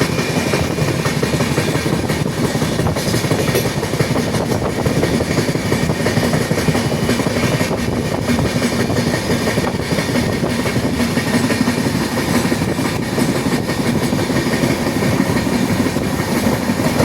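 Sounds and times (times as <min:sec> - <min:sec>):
clickety-clack over rail joints: 0:00.0 - 0:17.0
train wheels rumbling on track: 0:00.0 - 0:17.0.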